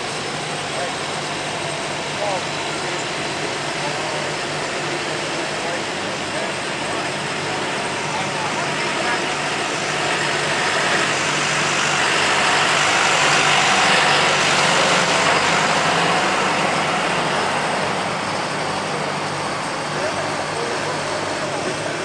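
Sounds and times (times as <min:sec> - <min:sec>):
tractor engine working hard: 0:00.0 - 0:22.0.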